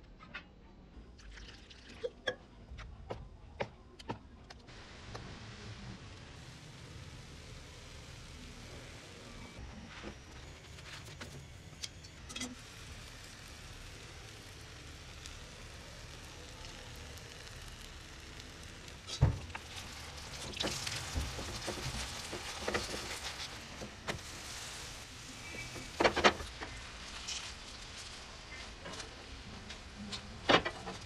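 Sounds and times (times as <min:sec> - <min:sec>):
batter sizzling in oil: 0:04.7 - 0:30.4.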